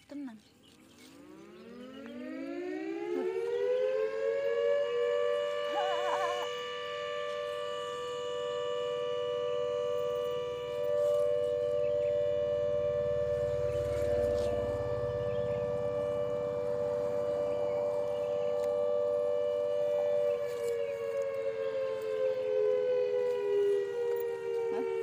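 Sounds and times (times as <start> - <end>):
siren wailing: 1.0 - 25.0.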